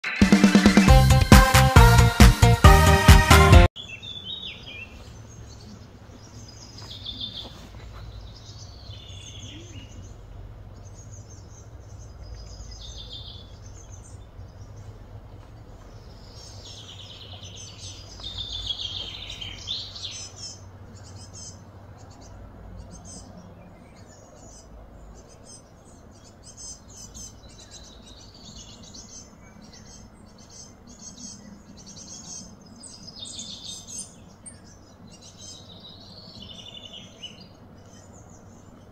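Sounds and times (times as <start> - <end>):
birds chirping and calling: 3.8 - 38.9
low background hum: 4.0 - 38.9.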